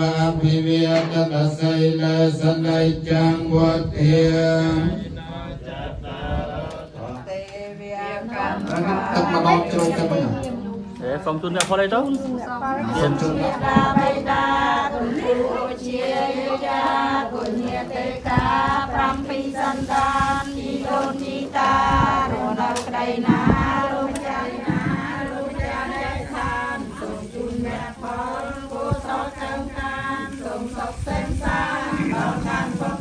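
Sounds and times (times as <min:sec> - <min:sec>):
monks chanting into microphone: 0:00.0 - 0:11.5, 0:12.2 - 0:33.0.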